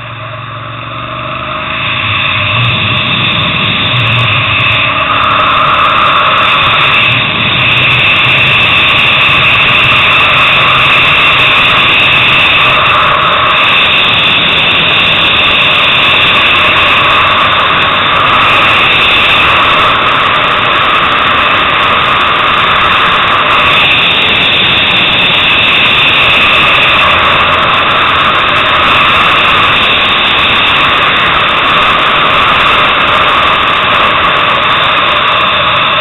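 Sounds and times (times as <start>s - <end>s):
motorcycle engine at high revs: 0.0s - 36.0s
wind rush on microphone: 0.0s - 36.0s.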